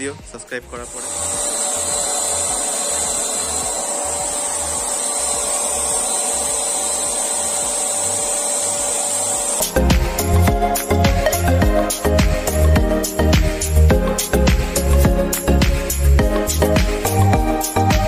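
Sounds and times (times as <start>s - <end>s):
paint spray gun motor humming: 0.4s - 18.0s.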